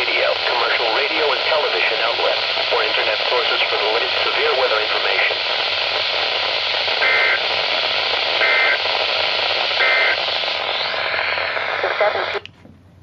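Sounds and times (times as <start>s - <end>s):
radio static hiss: 0.0s - 12.4s.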